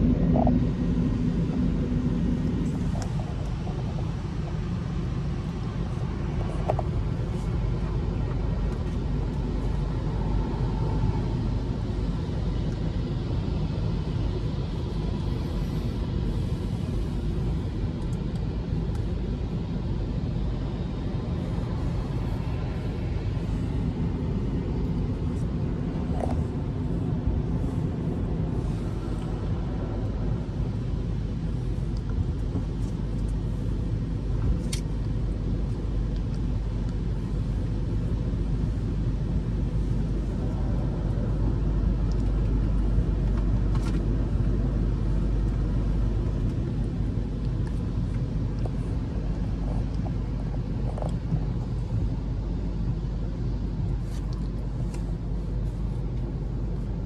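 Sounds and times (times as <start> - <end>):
car wash machinery rumbling: 0.0 - 57.0.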